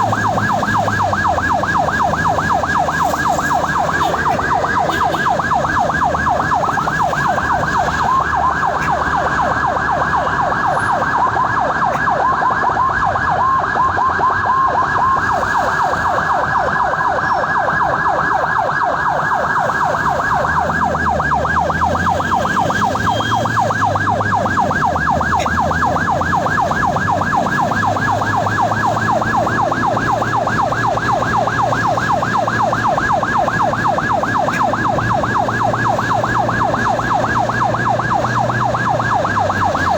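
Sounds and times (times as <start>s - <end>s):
ambulance siren yelping: 0.0s - 39.9s
vehicle engine and road rumble: 0.0s - 39.9s.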